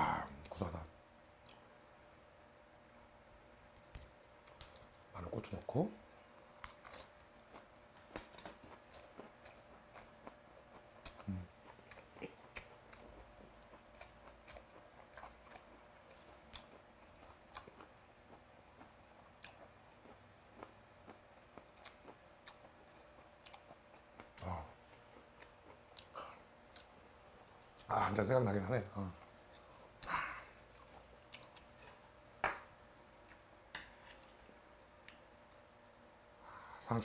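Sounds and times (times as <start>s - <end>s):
faint chewing: 3.6s - 36.7s.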